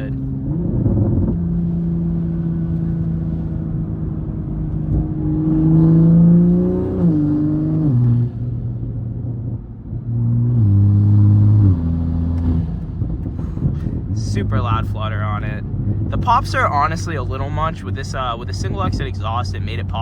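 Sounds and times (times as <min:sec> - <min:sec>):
car engine revving and shifting gears: 0:00.0 - 0:20.0.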